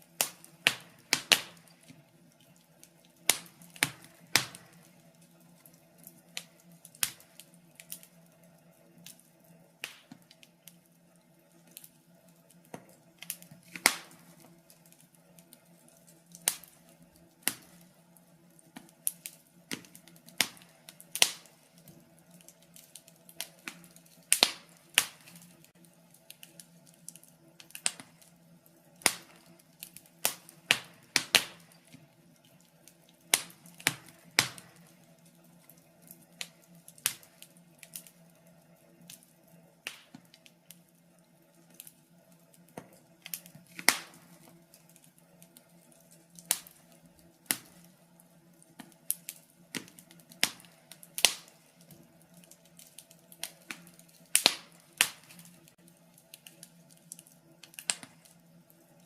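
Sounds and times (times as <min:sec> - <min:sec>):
faint steady low hum: 0:00.0 - 0:59.0
wood fire crackling: 0:00.0 - 0:59.0.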